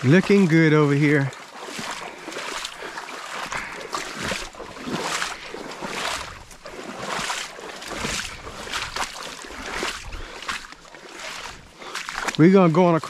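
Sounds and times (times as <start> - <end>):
footsteps walking: 0.0 - 12.8.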